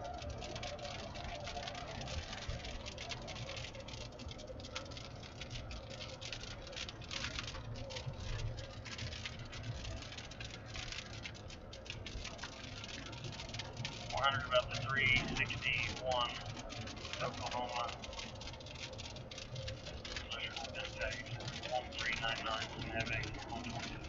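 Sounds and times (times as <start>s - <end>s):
rain pattering on a car: 0.0s - 24.0s.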